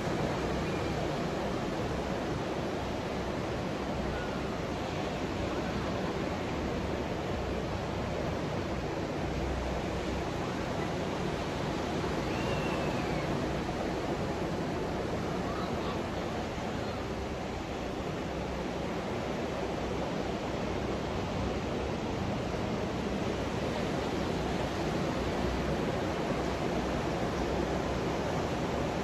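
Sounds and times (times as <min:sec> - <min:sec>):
ocean surf breaking on sand: 0:00.0 - 0:29.0.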